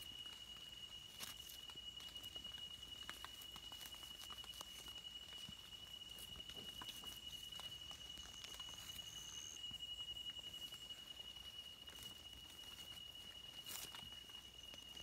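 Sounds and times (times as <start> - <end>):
higher insect trill: 0.0 - 15.0
insect trilling: 0.0 - 15.0
rustling of dry leaf litter: 0.0 - 15.0.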